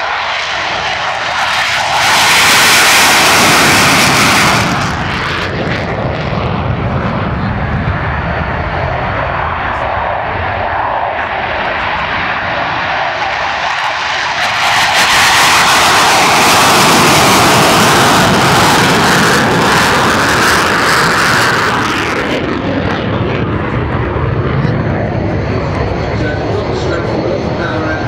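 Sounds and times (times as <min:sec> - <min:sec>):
jet engine roar: 0:00.0 - 0:28.0.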